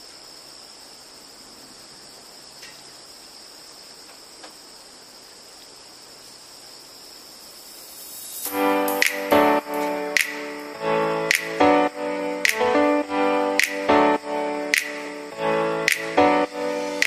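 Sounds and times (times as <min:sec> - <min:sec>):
insect trilling: 0:01.8 - 0:17.0.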